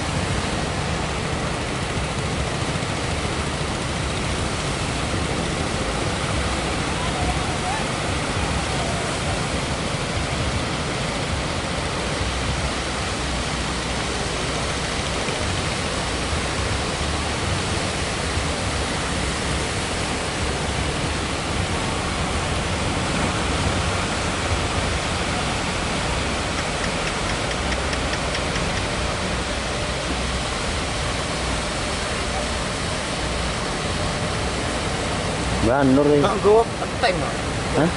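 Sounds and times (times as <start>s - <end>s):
ocean surf breaking: 0.0s - 37.9s.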